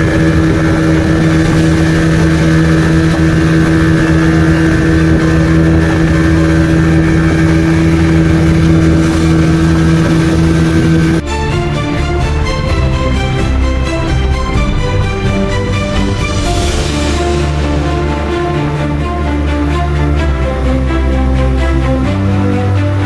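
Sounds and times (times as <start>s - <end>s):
motorboat engine droning: 0.0s - 23.0s.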